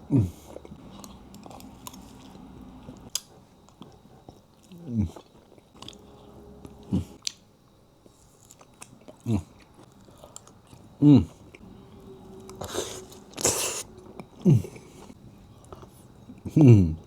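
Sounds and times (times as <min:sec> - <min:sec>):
chewing and biting food: 0:00.3 - 0:07.4, 0:08.0 - 0:16.6.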